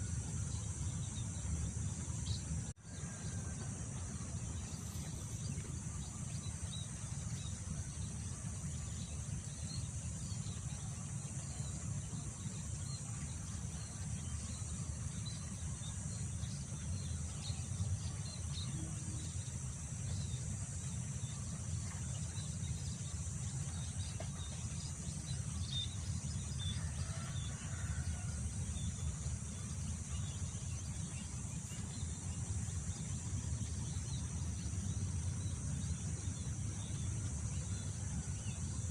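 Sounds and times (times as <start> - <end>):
high drone of insects: 0.0 - 38.9.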